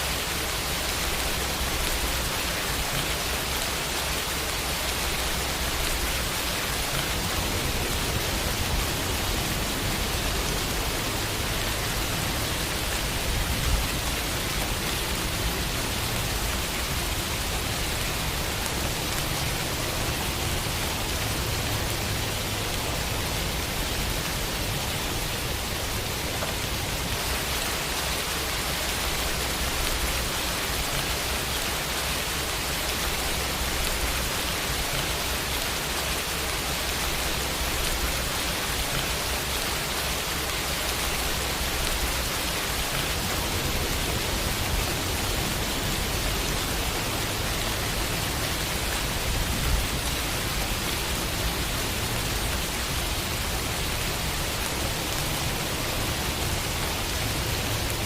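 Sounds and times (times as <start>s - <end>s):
rain falling on a window: 0.0s - 58.0s.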